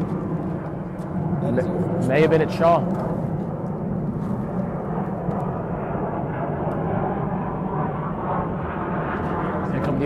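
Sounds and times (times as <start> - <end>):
jet aircraft flying overhead: 0.0 - 10.0.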